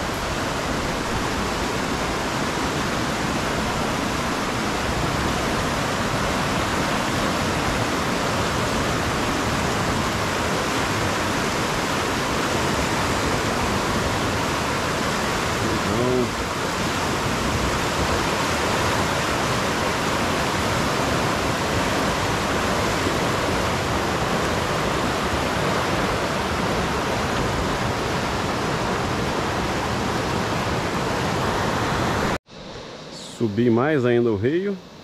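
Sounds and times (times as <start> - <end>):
water rushing through rapids: 0.0 - 32.4.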